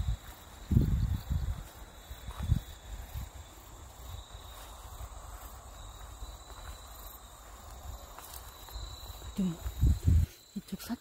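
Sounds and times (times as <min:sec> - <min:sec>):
footsteps on grass: 0:00.0 - 0:11.0
insects trilling: 0:00.0 - 0:11.0.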